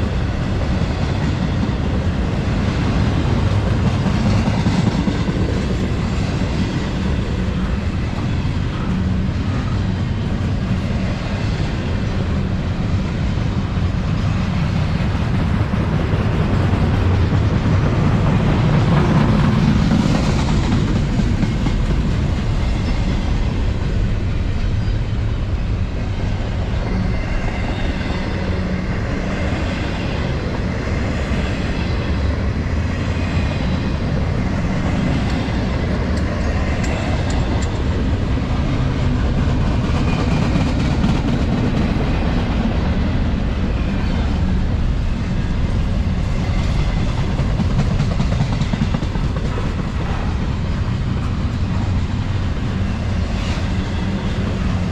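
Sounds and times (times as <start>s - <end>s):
freight train rumbling past: 0.0s - 54.9s.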